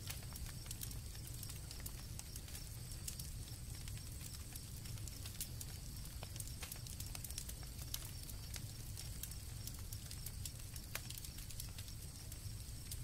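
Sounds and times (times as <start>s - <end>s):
campfire crackling and popping: 0.0s - 13.0s
crickets chirping: 0.0s - 13.0s
low rumble of burning wood: 0.0s - 13.0s.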